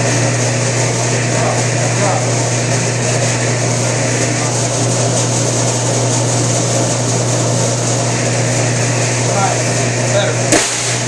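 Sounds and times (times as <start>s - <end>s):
sheet metal flanger motor running: 0.0s - 11.0s.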